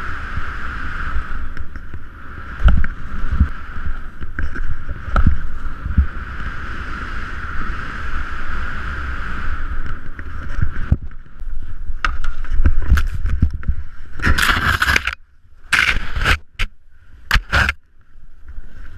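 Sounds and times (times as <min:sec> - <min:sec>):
rider tumbling in snow: 0:00.0 - 0:16.6
snowboard scraping over snow: 0:00.0 - 0:17.8
wind on microphone: 0:00.0 - 0:18.9.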